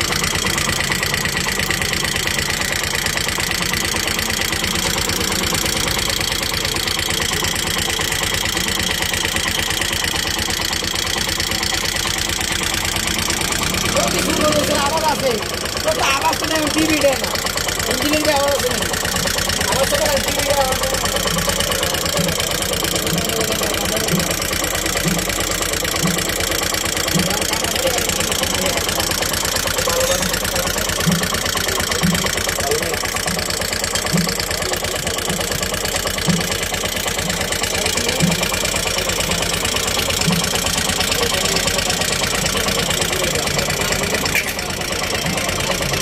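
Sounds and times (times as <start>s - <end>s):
auto-rickshaw engine idling: 0.0s - 46.0s
low engine knock: 0.0s - 46.0s.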